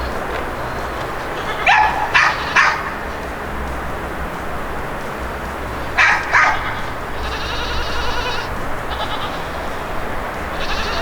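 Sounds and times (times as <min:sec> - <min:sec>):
farm animal calling: 0:00.0 - 0:11.0
wind rumble on microphone: 0:00.0 - 0:11.0.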